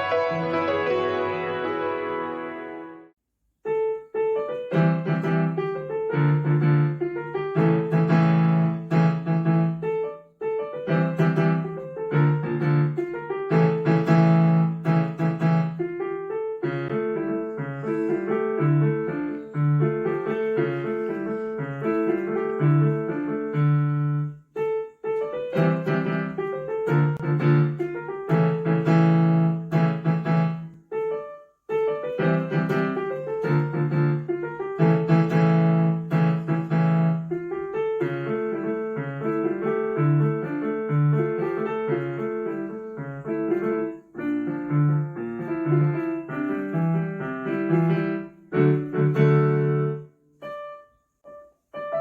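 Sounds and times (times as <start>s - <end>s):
solo piano: 0.0s - 52.0s.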